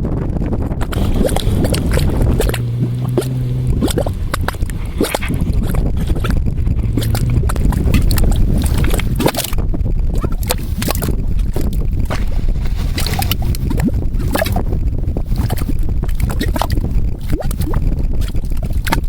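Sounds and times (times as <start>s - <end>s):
low rumble: 0.0s - 19.0s
mud bubbling and popping: 0.0s - 19.0s.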